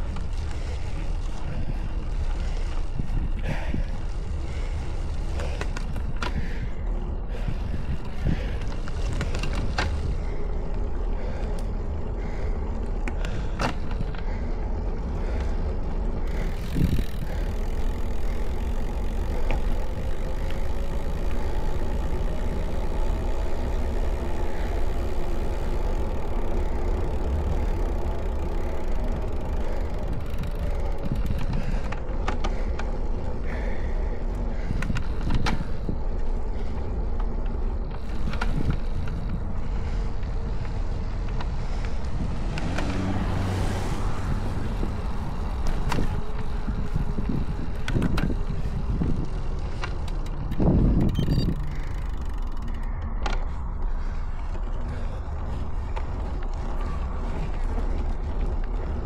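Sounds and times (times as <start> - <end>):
tyres rolling on asphalt: 0.0 - 59.0
wind rumble on microphone: 0.0 - 59.0.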